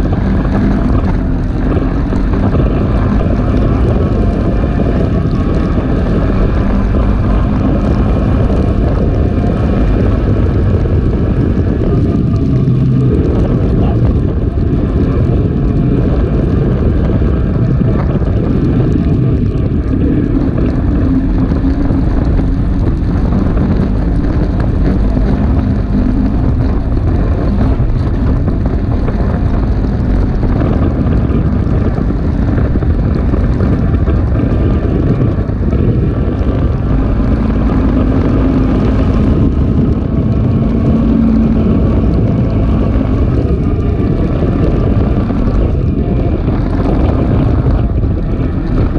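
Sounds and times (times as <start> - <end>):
off-road vehicle engine: 0.0 - 48.9
wind buffeting microphone: 0.0 - 48.9.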